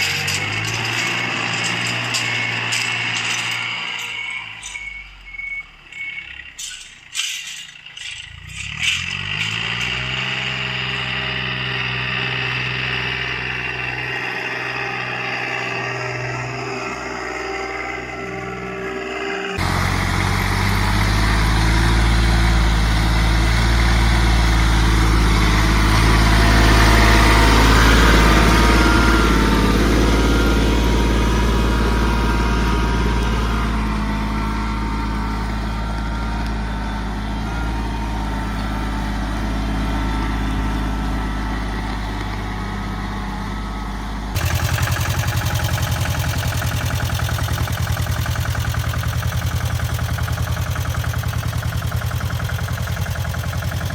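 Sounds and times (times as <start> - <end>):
engine chugging fast: 0.0 - 4.7, 7.9 - 53.9
tractor engine running under load: 0.0 - 53.9.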